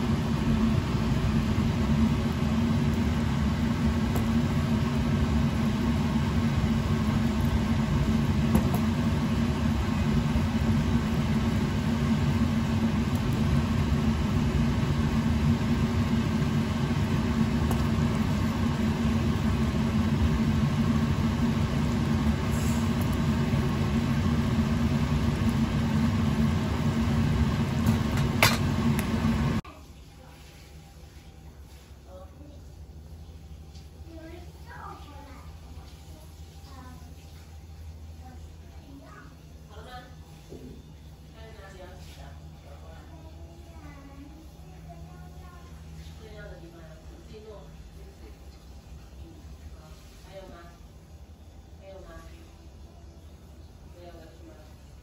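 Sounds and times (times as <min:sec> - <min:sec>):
kitchen equipment humming: 0:00.0 - 0:55.0.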